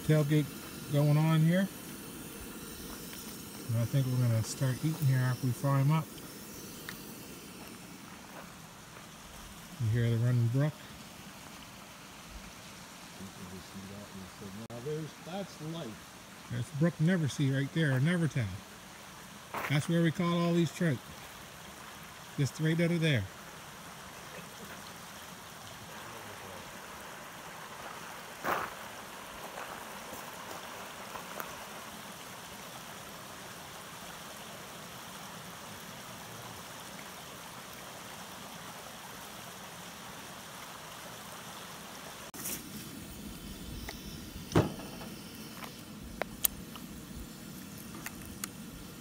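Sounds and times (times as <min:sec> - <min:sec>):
brook water rushing: 0:00.0 - 0:43.0.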